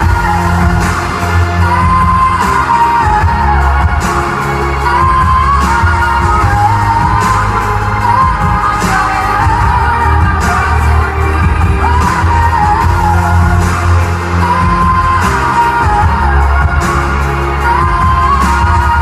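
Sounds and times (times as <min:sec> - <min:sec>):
loud bass and drums: 0:00.0 - 0:19.0
woman singing: 0:00.0 - 0:19.0.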